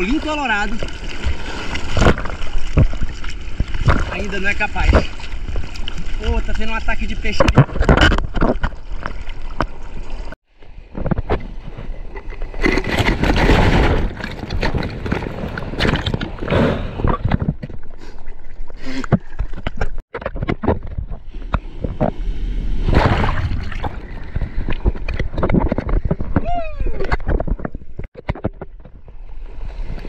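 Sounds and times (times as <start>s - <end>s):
seawater sloshing and splashing: 0.0s - 10.4s, 11.0s - 26.4s.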